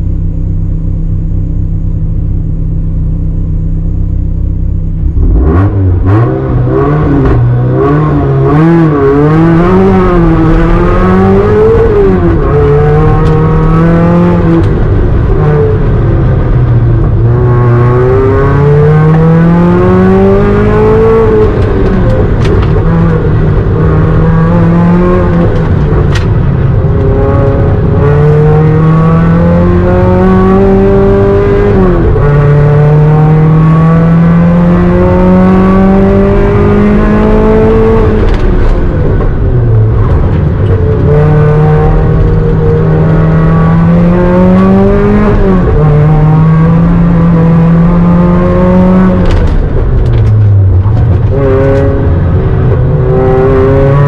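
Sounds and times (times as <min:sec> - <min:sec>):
car engine revving hard: 0:05.1 - 0:54.0.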